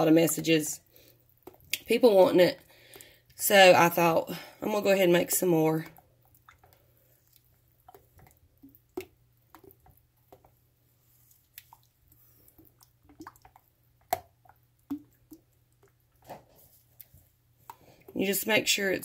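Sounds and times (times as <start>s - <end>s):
soft wet squishing: 0.0s - 19.0s.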